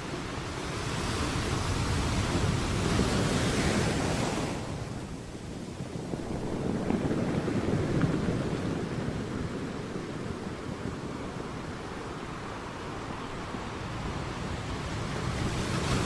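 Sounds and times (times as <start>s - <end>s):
sea waves washing onto shore: 0.0s - 16.0s
wind on microphone: 0.0s - 16.0s.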